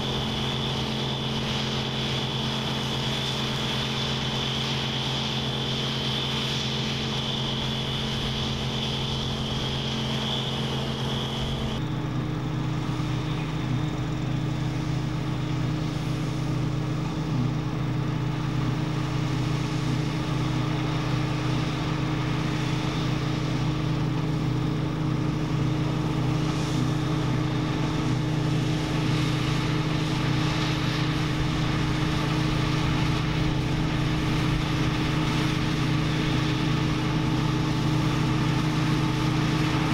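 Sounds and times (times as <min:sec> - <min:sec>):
combine harvester engine hum: 0:00.0 - 0:39.9
high whine: 0:00.0 - 0:39.9.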